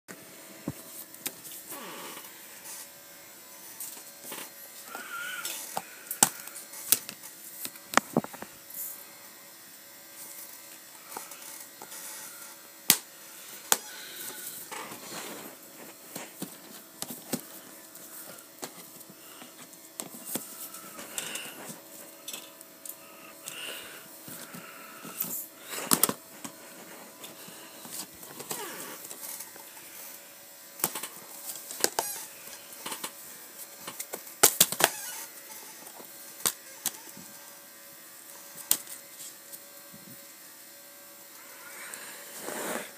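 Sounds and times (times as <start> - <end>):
faint steady hum: 0.1 - 42.9.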